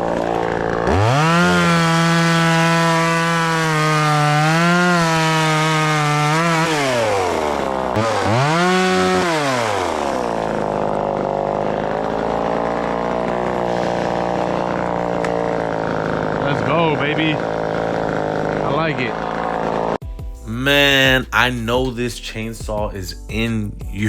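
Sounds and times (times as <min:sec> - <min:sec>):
chainsaw engine running: 0:00.0 - 0:20.0.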